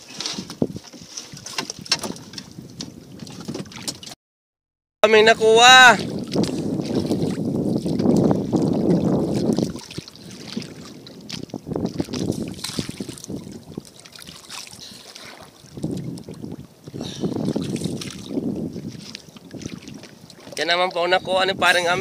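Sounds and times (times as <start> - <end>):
water sloshing around boat: 0.0 - 4.2, 5.0 - 22.0.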